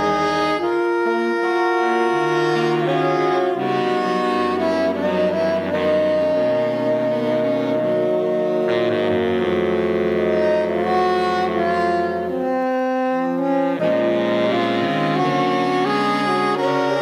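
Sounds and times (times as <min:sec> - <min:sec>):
big band horns playing chords: 0:00.0 - 0:17.0.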